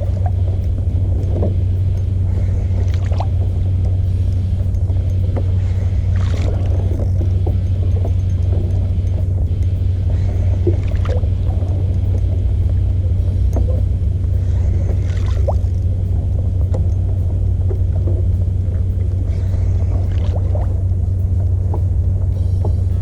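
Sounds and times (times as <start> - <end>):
outboard motor droning: 0.0 - 23.0
water splashes: 0.0 - 23.0.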